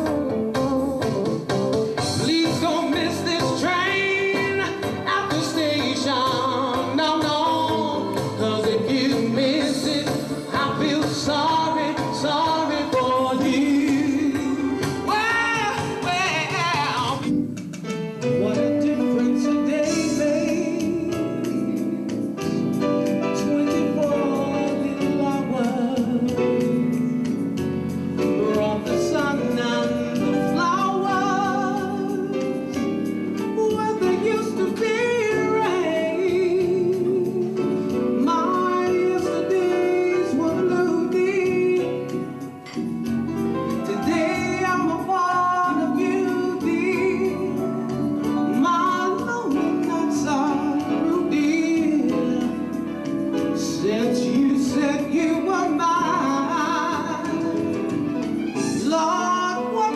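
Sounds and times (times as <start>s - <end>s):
person singing with vibrato: 0.0s - 17.5s, 18.2s - 59.9s
band playing pop song: 0.0s - 59.9s.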